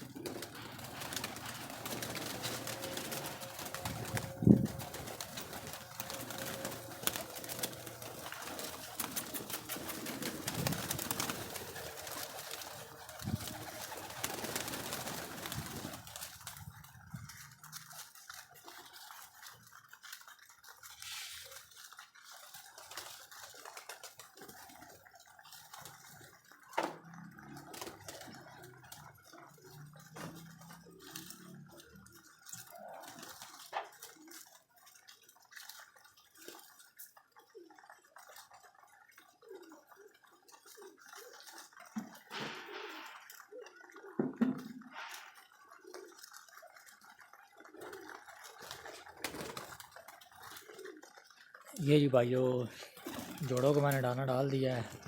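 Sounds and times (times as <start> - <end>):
pigeons cooing: 0.0 - 20.2, 24.4 - 35.0, 37.4 - 51.6, 52.9 - 54.0.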